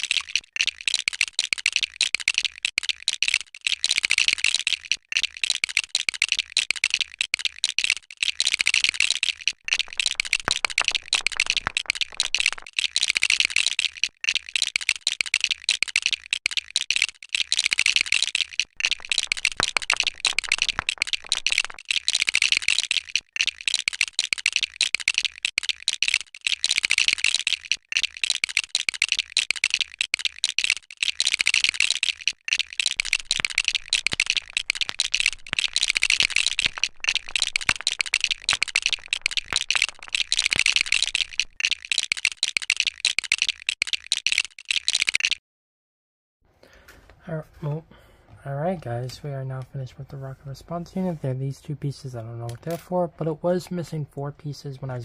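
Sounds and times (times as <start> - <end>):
plastic bricks clicking and rattling: 0.0 - 45.4, 52.1 - 53.9.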